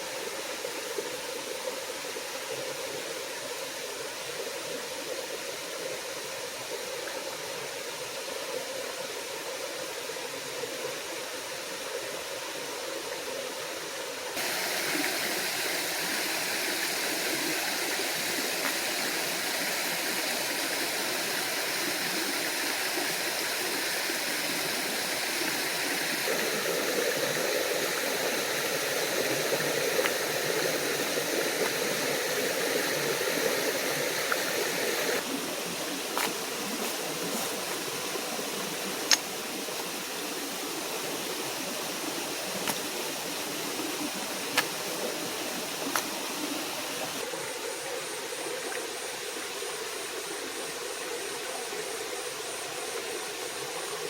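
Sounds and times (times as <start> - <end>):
stream and waterfall rushing: 0.0 - 54.0.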